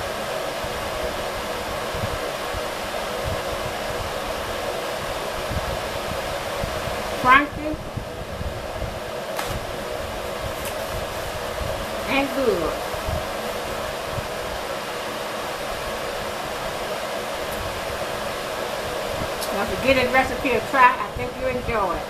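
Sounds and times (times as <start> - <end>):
fan whirring: 0.0 - 22.0.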